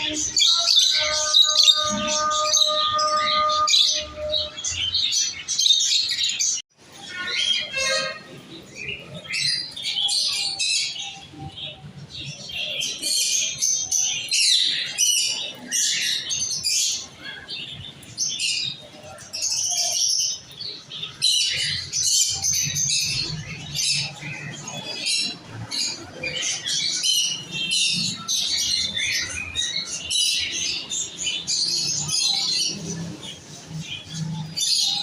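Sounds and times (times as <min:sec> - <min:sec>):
parrots chirping and squawking: 0:00.0 - 0:35.0.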